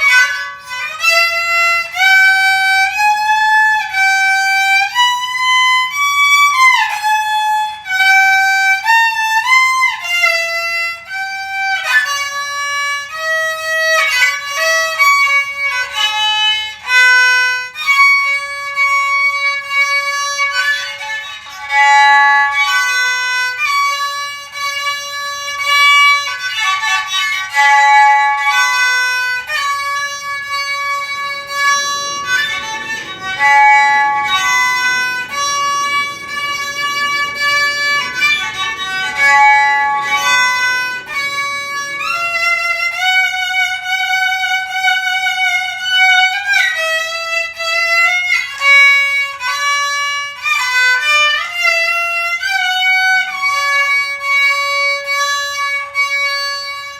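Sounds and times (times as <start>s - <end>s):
bowed fiddle slow melody: 0.0s - 56.9s.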